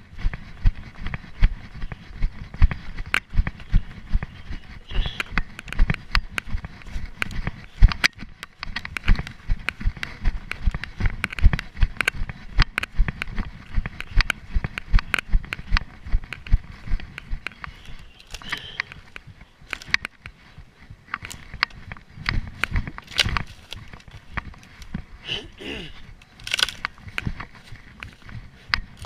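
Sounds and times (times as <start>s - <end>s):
running footsteps on forest ground: 0.0s - 29.0s
twigs and dry grass crackling: 0.0s - 29.0s.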